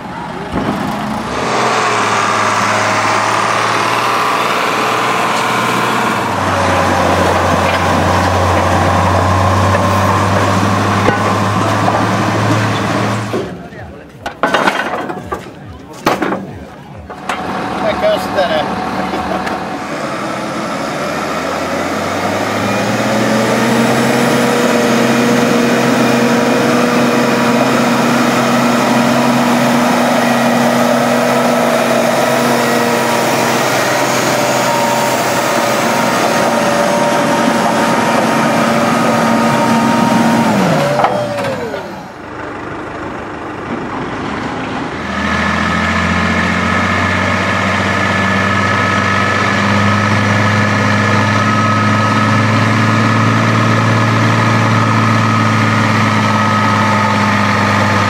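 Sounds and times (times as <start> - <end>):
tractor diesel engine at high revs: 0.0 - 58.0
tractor engine at low revs: 0.0 - 58.0.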